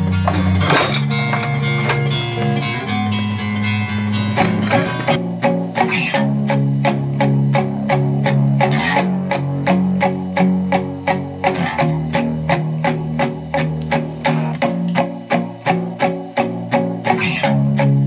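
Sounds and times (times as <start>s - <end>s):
guitar music through loudspeakers: 0.0s - 18.0s.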